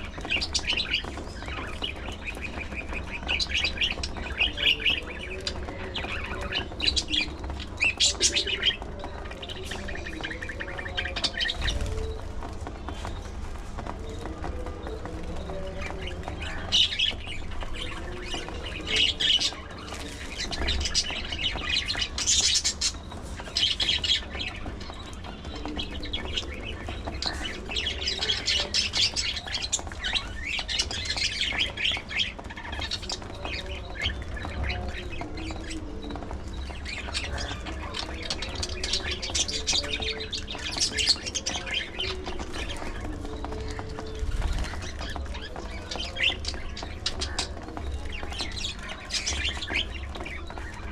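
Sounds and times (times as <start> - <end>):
budgerigars chattering and squawking: 0.0 - 50.9.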